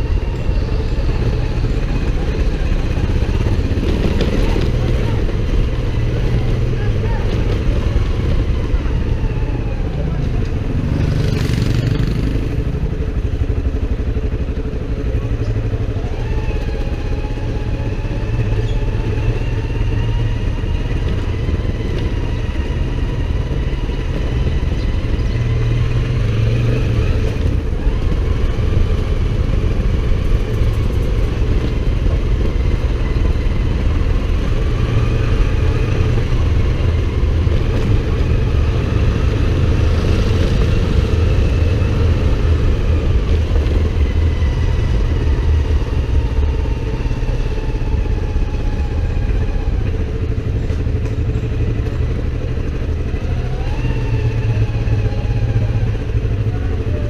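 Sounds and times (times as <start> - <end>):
continuous low rumble: 0.0 - 57.0
motorcycle engine running: 0.0 - 57.0.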